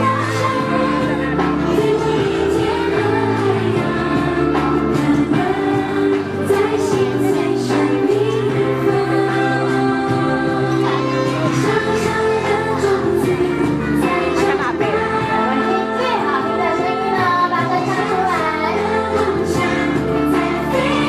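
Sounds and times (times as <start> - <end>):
children singing in chorus: 0.0 - 21.0
instrumental accompaniment: 0.0 - 21.0.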